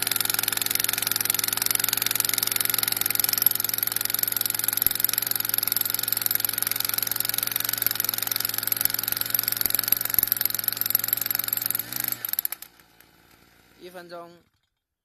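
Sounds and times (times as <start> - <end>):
portable drill engine running: 0.0 - 14.6.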